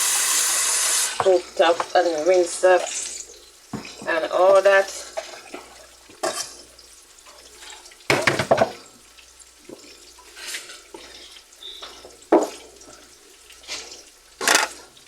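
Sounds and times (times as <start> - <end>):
water splashing in a sink: 0.0 - 15.0.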